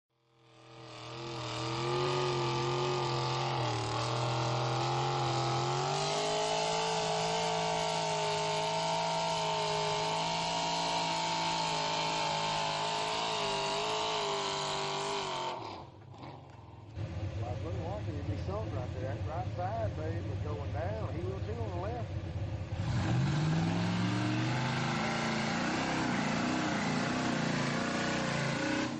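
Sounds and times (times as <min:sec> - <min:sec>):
truck engine at high revs: 0:00.1 - 0:28.9.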